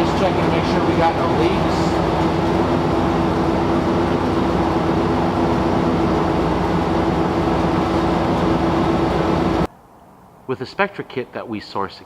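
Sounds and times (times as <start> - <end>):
fuel pump whine: 0.0 - 10.4
truck engine hum: 0.0 - 10.6.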